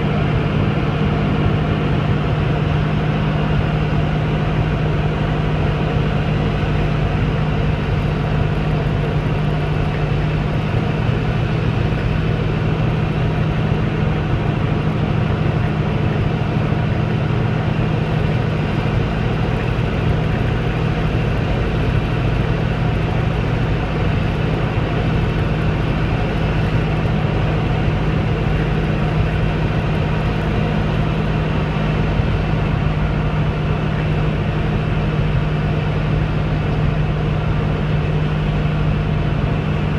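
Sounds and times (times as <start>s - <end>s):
airplane propeller engine drone: 0.0s - 39.9s.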